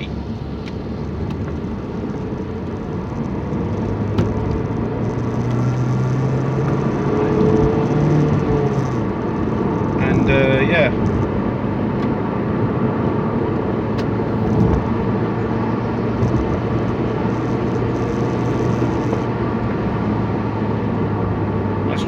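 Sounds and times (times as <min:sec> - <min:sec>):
car engine low hum: 0:00.0 - 0:22.0
tyre and road noise: 0:00.0 - 0:22.0.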